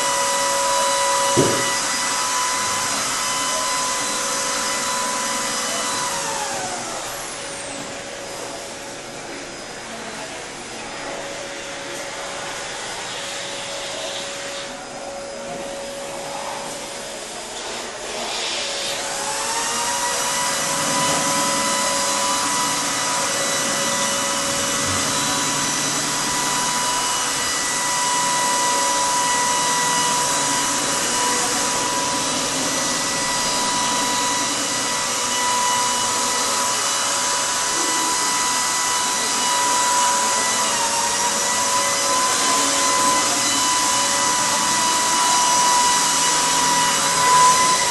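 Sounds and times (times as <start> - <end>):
electric motor fan whining: 0.0 - 47.9.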